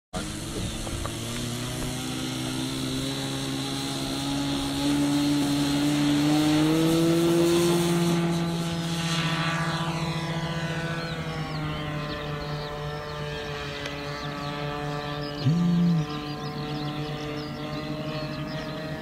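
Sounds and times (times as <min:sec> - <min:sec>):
model aircraft engine running: 0:00.1 - 0:19.0.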